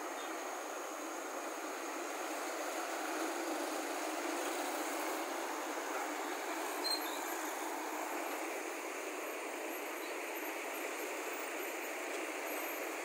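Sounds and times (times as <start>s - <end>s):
fire engine engine: 0.0s - 13.0s
slow road traffic: 0.0s - 13.0s.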